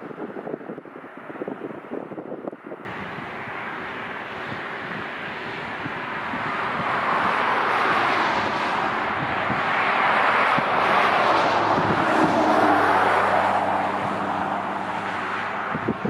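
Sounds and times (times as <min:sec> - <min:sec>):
wind buffeting microphone: 0:00.0 - 0:16.0
jet engines rushing: 0:02.8 - 0:16.0.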